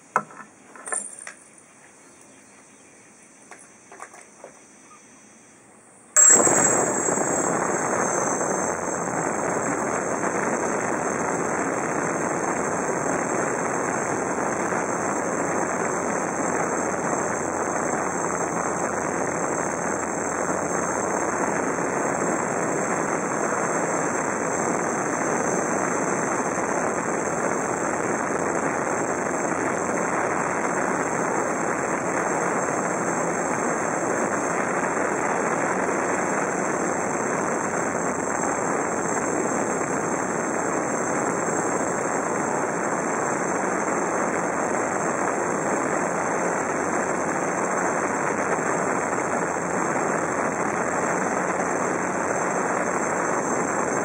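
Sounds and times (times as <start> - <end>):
high motor whine: 6.2 - 54.0
quadcopter propellers: 6.2 - 54.0.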